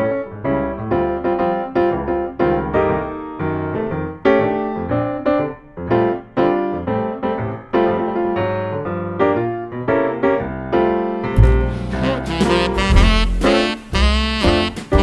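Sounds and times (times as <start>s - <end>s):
piano piece: 0.0s - 15.0s.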